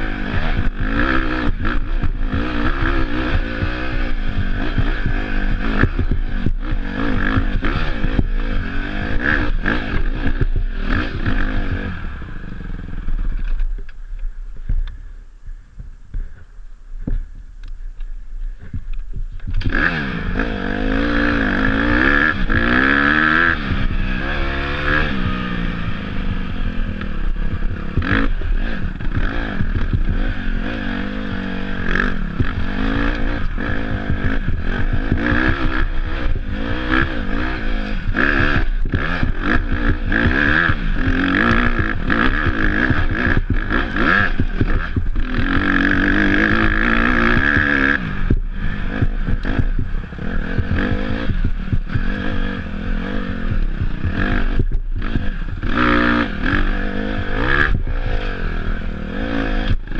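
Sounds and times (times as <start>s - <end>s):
dirt bike engine revving: 0.0s - 15.1s, 18.4s - 59.9s.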